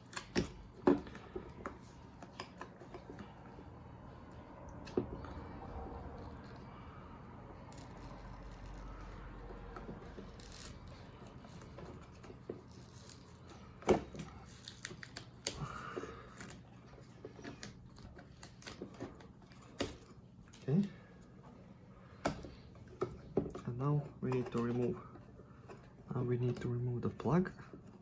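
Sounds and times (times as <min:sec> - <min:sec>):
rustling: 0:00.0 - 0:26.6.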